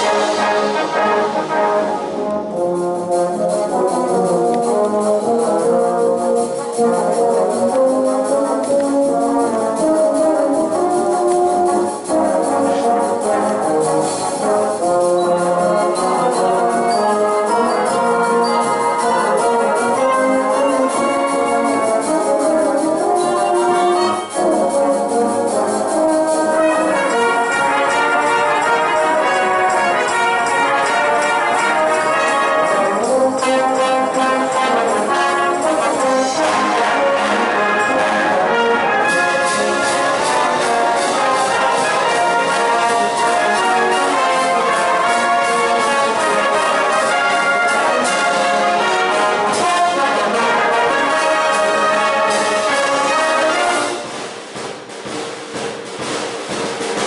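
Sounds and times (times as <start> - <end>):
brass bands playing: 0.0 - 57.0.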